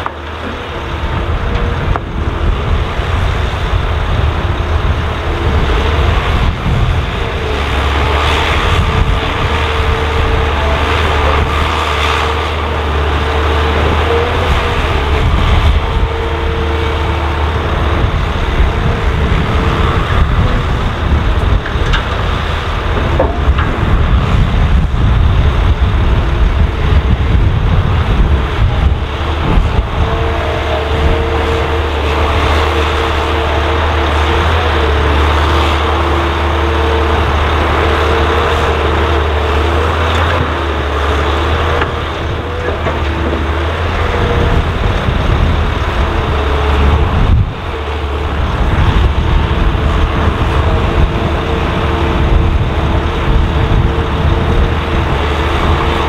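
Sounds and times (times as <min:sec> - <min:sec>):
excavator diesel engine under load: 0:00.0 - 0:56.0.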